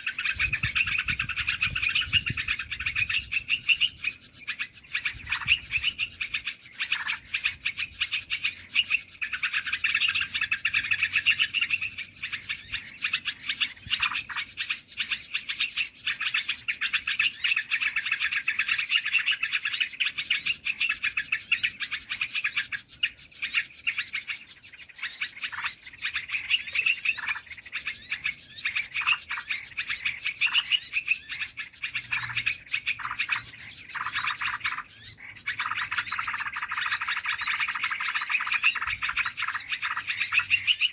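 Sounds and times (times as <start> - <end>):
many small birds chattering: 0.0 - 40.9.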